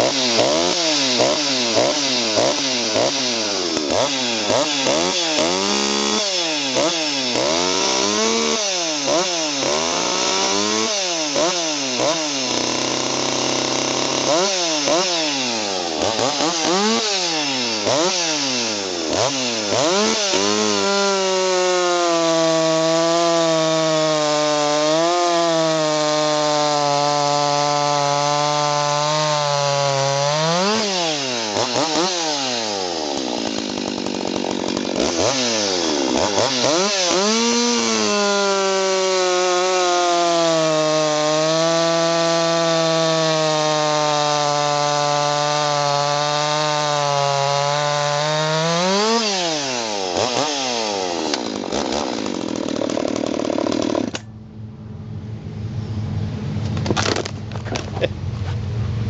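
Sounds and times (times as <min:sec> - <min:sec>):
chainsaw revving and cutting wood: 0:00.0 - 0:54.3.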